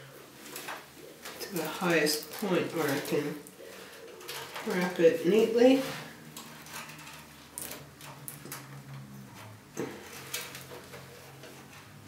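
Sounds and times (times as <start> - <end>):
cables rustling: 0.0 - 12.0.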